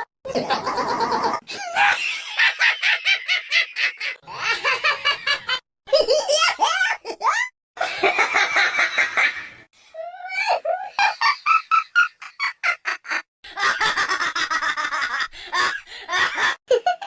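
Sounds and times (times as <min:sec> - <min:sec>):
high-pitched cartoon laughs: 0:00.0 - 0:09.6, 0:10.3 - 0:17.0.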